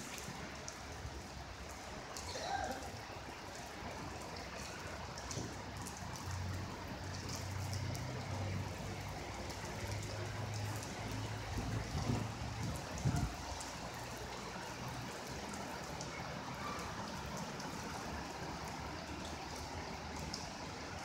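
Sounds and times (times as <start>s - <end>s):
rainwater runoff flowing: 0.0s - 21.0s.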